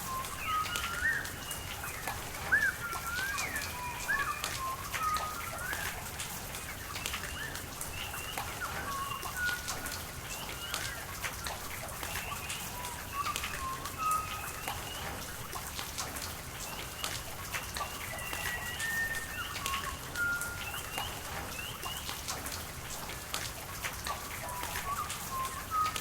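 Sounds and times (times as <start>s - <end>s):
rain pattering: 0.0s - 26.0s
sharp drip ticks: 0.0s - 26.0s.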